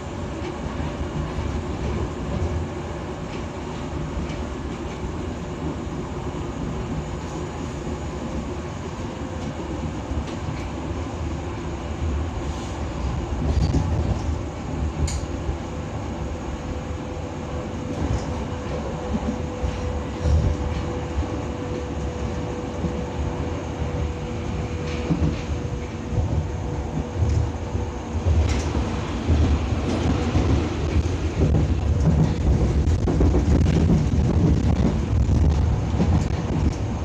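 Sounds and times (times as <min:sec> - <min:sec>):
subway wheels rumbling on track: 0:00.0 - 0:37.0.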